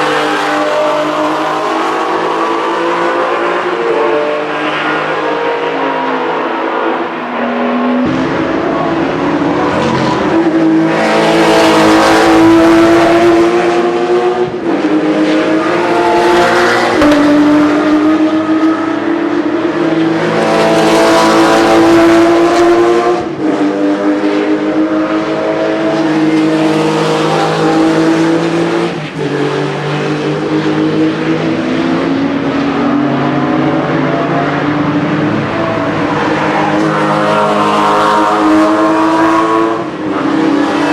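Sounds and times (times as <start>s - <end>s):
sports car engines revving: 0.0s - 40.9s.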